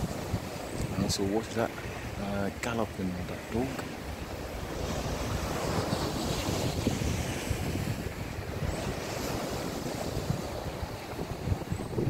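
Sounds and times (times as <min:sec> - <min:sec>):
waves breaking on sandy beach: 0:00.0 - 0:12.0
wind buffeting microphone: 0:00.0 - 0:12.0.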